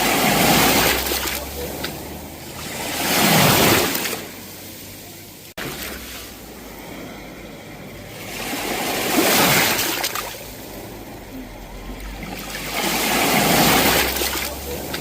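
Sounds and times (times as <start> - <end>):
sea waves breaking on shore: 0.0 - 15.0.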